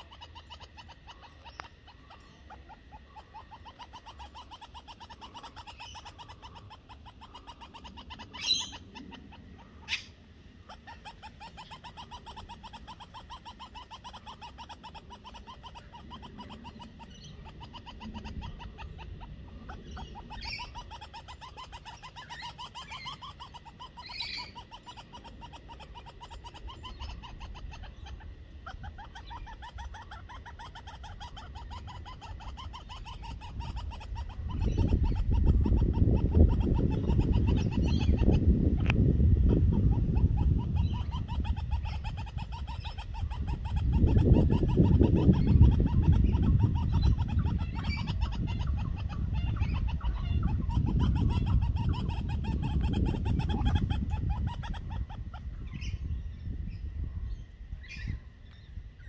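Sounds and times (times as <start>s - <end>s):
higher parrot calls: 0.0s - 56.0s
parrots chattering: 0.0s - 59.0s.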